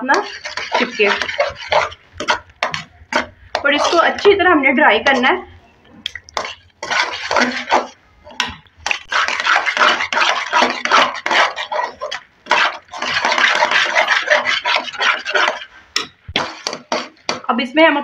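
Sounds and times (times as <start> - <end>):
spoon scraping a pan: 0.0 - 5.5, 6.3 - 17.6.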